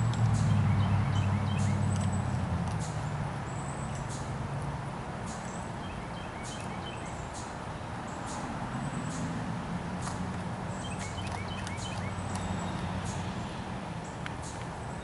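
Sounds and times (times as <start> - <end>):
small birds chirping: 0.0 - 4.4, 5.2 - 9.4, 10.0 - 15.0.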